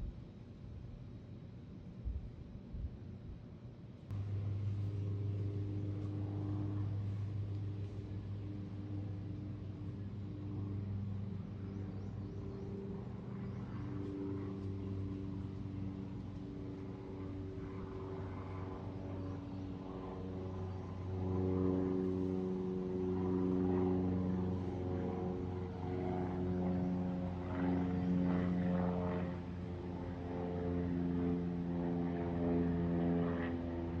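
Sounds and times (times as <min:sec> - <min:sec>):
engine drone: 0:04.1 - 0:34.0.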